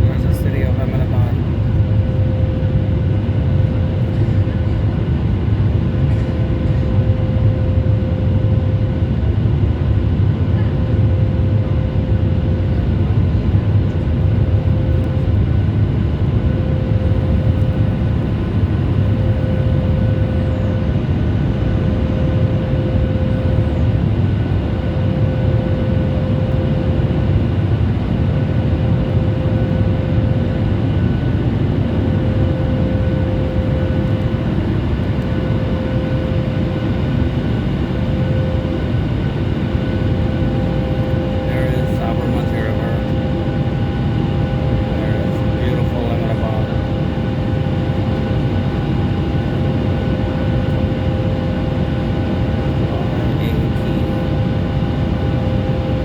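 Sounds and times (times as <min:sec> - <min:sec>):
mid-pitched hum: 0:00.0 - 0:08.8, 0:12.4 - 0:56.0
airplane cabin drone: 0:00.0 - 0:56.0.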